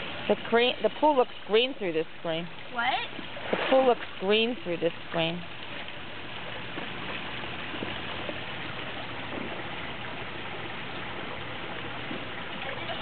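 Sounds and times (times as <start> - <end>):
rushing trickling water: 0.0 - 13.0.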